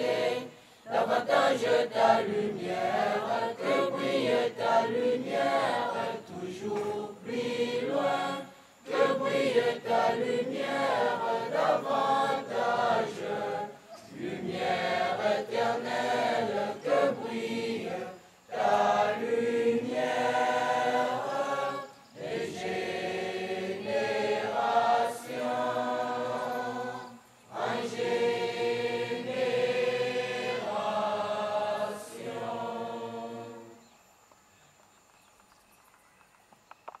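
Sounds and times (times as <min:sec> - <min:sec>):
group of students singing: 0:00.0 - 0:33.8.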